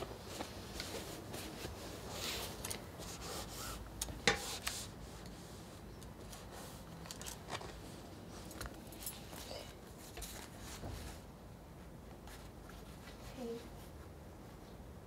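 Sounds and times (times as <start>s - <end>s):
cloth rustling and rubbing: 0.0s - 14.7s.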